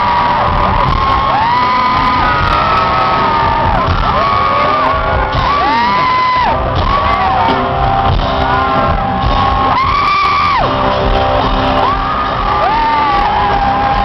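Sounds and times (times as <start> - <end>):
fans screaming: 0.0 - 14.0
loud concert music: 0.0 - 14.0.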